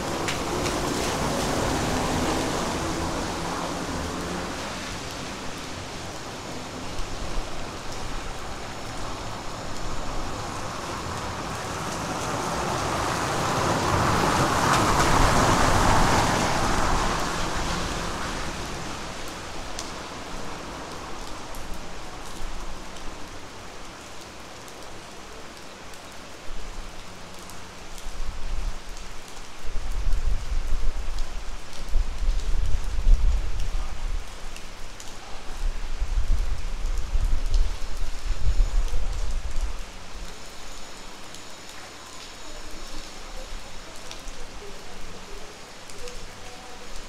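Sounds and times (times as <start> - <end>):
rain falling on roofs: 0.0 - 47.0.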